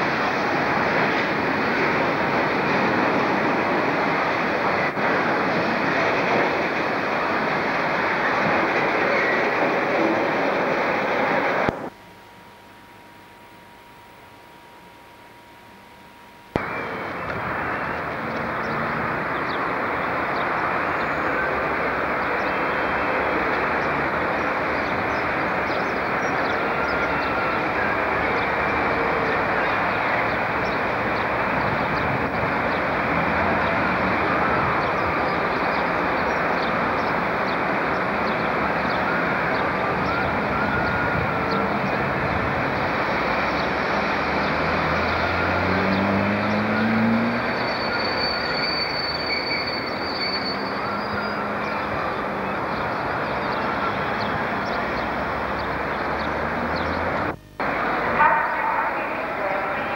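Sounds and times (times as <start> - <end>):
locomotive and wheels rumbling: 0.0 - 12.0, 16.5 - 59.9.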